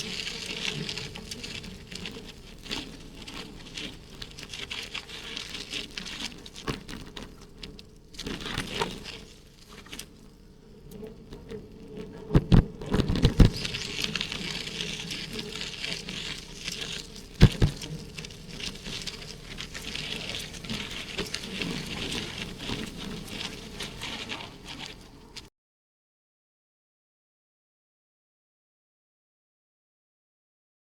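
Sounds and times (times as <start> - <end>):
bicycle rattling: 0.0 - 25.5
wind and rolling hiss: 0.0 - 25.5.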